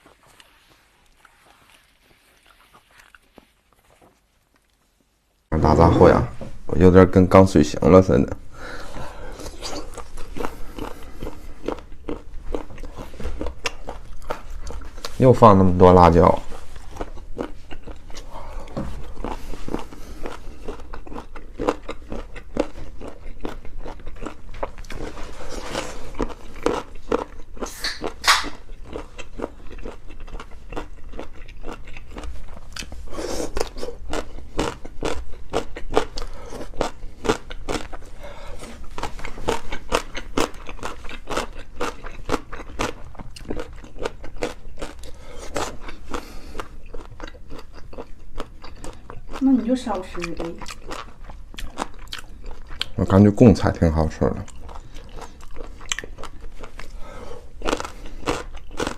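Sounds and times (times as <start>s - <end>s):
crunchy food chewing: 0.0s - 5.3s, 8.6s - 58.9s.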